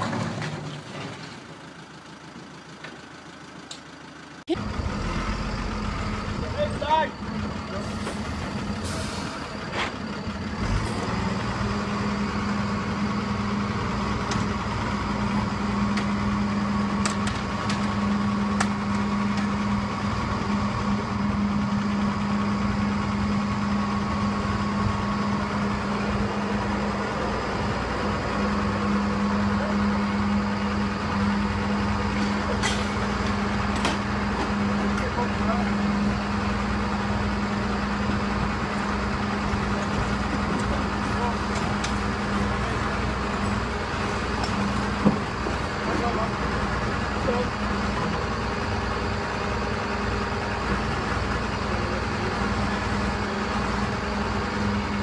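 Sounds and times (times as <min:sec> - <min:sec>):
diesel engine humming: 0:00.0 - 0:55.0.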